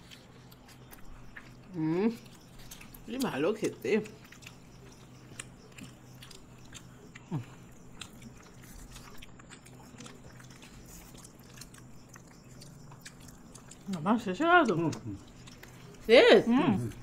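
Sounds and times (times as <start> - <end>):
faint chewing clicks: 0.0 - 17.0.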